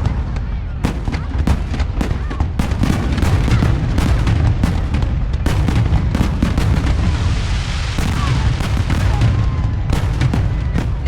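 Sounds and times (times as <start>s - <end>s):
continuous low booming: 0.0s - 11.0s
fireworks bangs: 0.0s - 11.0s.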